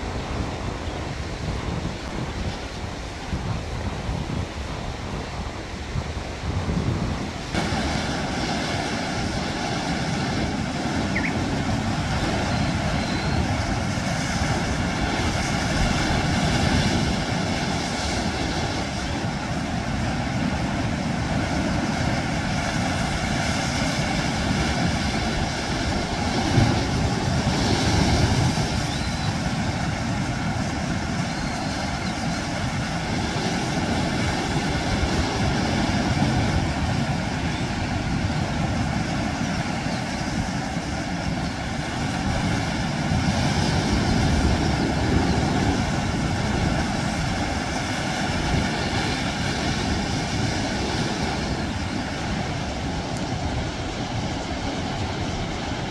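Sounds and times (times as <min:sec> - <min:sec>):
sea waves breaking against rocks: 0:06.3 - 0:55.9.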